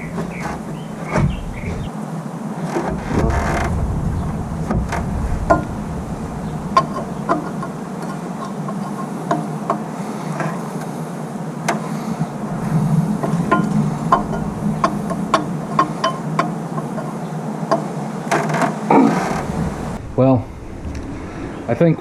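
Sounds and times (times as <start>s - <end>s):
steady low hum: 0.0s - 1.9s, 3.0s - 18.2s, 18.9s - 22.0s.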